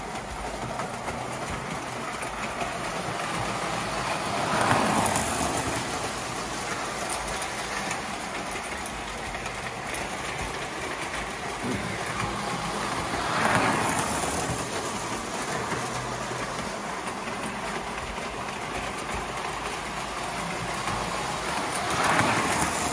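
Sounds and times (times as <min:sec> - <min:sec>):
toy trains whirring and rattling: 0:00.0 - 0:22.9.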